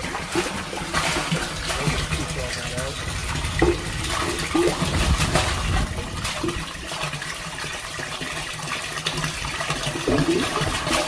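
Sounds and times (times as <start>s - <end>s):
water gushing from pump: 0.0s - 11.0s.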